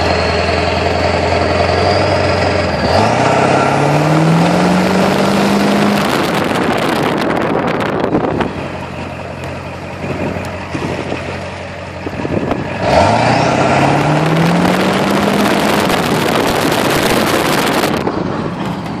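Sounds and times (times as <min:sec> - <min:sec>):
diesel truck engine accelerating: 0:00.0 - 0:19.0.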